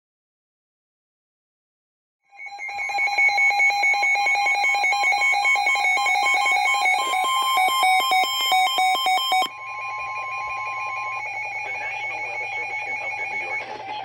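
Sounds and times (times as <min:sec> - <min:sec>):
overlapping electronic alarm beeping: 0:02.3 - 0:14.0.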